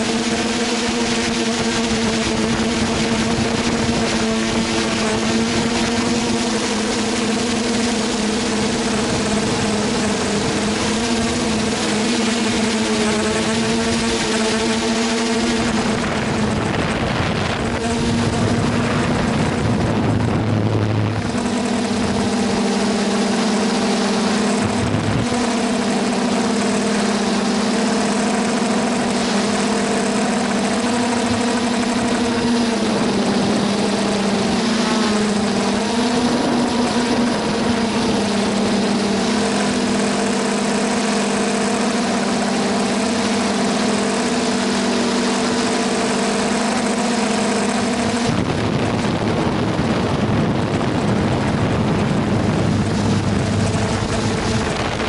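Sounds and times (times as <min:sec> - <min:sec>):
drone motors buzzing: 0:00.0 - 0:55.0
propeller wash rushing: 0:00.0 - 0:55.0.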